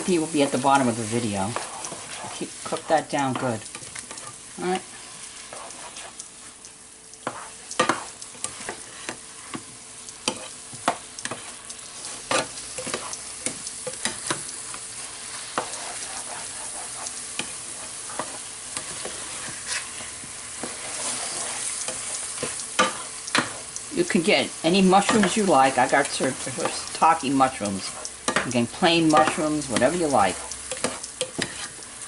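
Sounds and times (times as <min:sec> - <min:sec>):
vegetables sizzling in a frying pan: 0:00.0 - 0:32.0
utensil clicking against pan: 0:00.5 - 0:24.0, 0:24.8 - 0:32.0.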